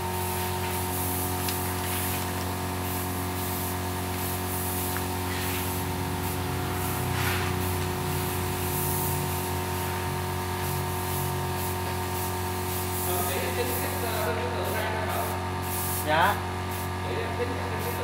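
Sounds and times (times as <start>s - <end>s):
spray paint can hissing: 0.1s - 14.2s, 15.1s - 17.0s, 17.6s - 18.0s.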